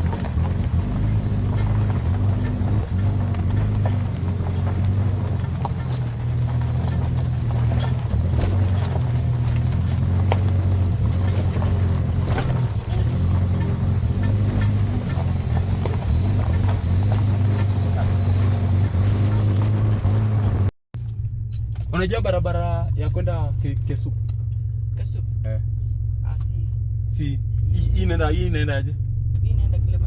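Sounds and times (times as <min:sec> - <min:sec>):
car engine and road drone: 0:00.0 - 0:30.0.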